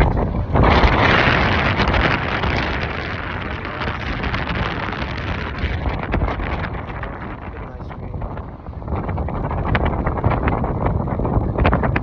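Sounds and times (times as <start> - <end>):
car rumbling on the move: 0.0 - 12.0
wind rushing over microphone: 0.0 - 12.0.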